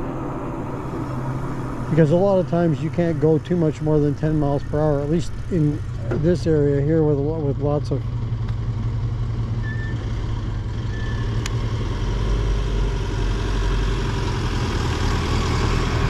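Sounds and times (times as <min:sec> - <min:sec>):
van engine rumbling: 0:00.0 - 0:16.0.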